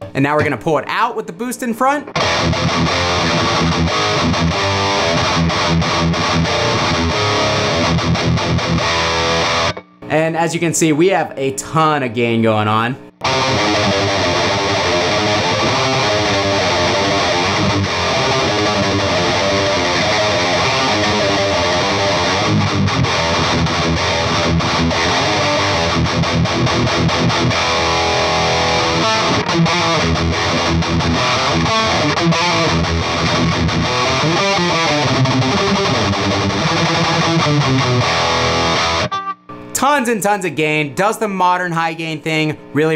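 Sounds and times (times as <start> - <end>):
distorted electric guitar riffing: 2.1 - 10.1, 13.2 - 39.7.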